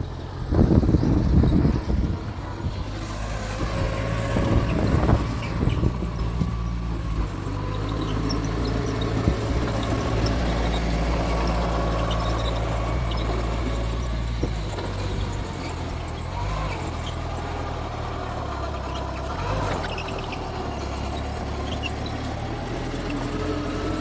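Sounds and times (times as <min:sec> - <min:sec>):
bulldozer diesel engine running: 0:00.0 - 0:24.0
faint high squeaks and ticks: 0:02.8 - 0:24.0.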